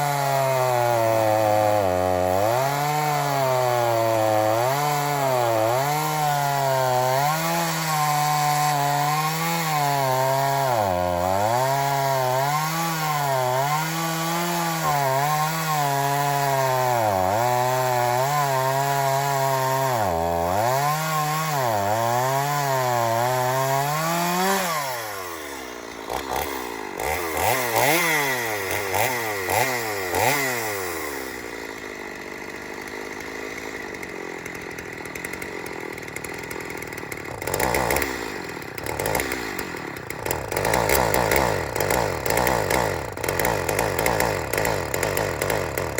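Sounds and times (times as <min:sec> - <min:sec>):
chainsaw cutting a log: 0:00.0 - 0:45.9.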